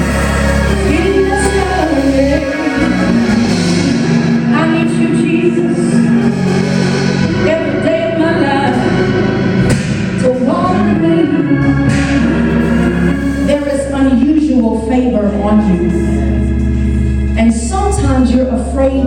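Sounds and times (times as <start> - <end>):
church singing: 0.0 - 18.8
held bass line: 0.0 - 19.0
organ chords: 0.0 - 19.0.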